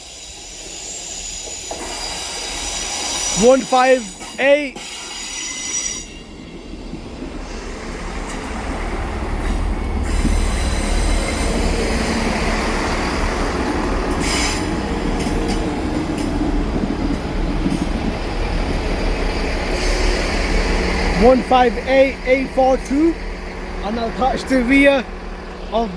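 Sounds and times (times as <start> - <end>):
diesel train rumble: 0.0 - 25.9.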